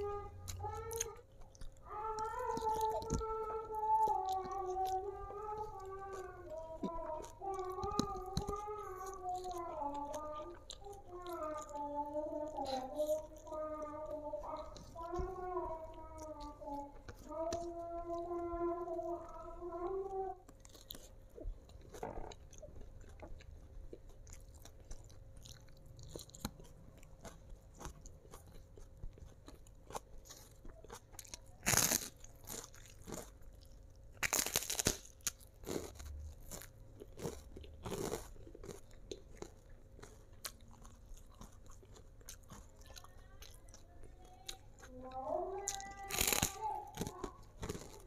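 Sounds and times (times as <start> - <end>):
chewing crispy fried food: 0.0 - 48.0.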